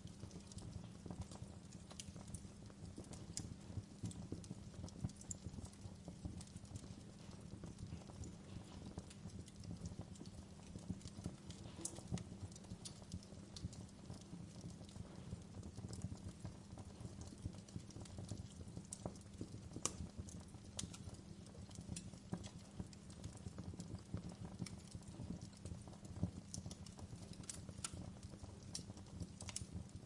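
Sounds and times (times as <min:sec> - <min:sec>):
burning wood crackling and popping: 0:00.0 - 0:30.0
fire flames rumbling: 0:00.0 - 0:30.0.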